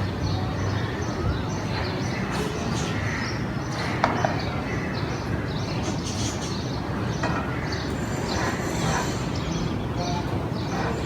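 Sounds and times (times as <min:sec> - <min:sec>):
birds chirping: 0:00.0 - 0:11.0
steady background noise: 0:00.0 - 0:11.0.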